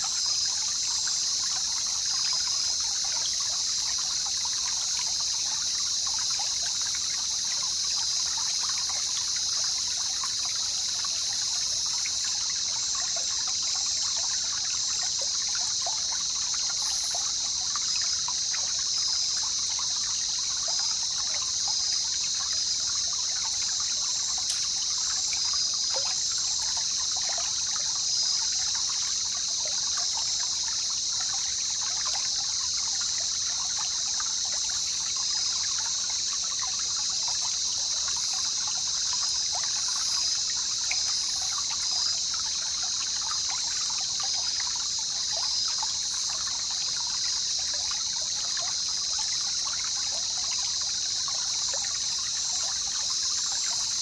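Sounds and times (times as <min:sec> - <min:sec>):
river water babbling: 0:00.0 - 0:54.0.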